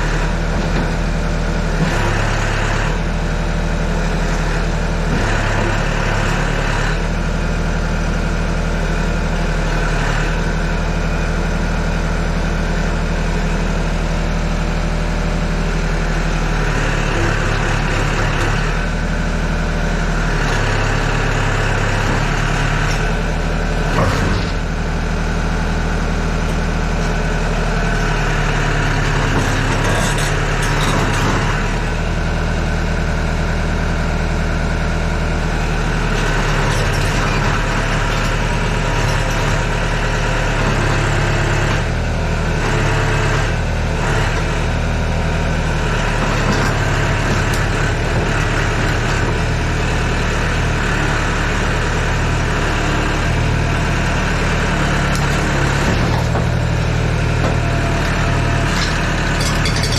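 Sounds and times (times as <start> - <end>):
excavator diesel engine idling: 0.0 - 59.9.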